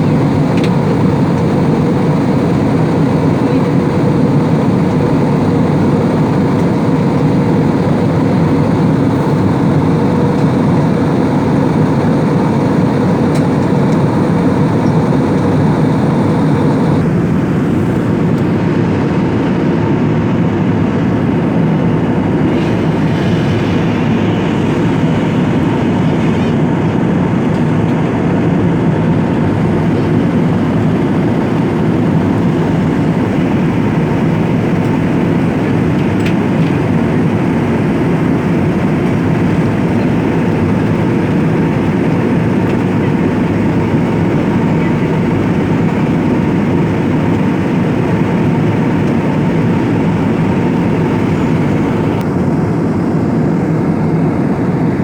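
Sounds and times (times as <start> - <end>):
airliner cabin engine roar: 0.0 - 55.0.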